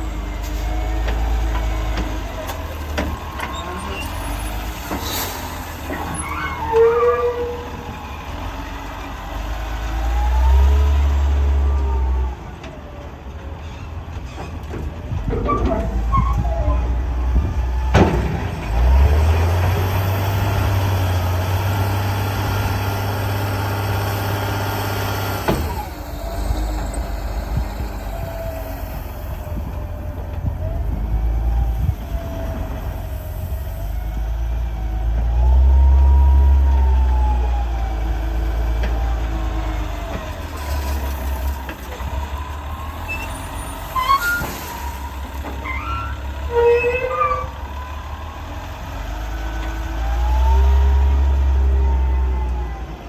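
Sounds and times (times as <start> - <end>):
diesel machinery engine rumble: 0.0 - 53.0.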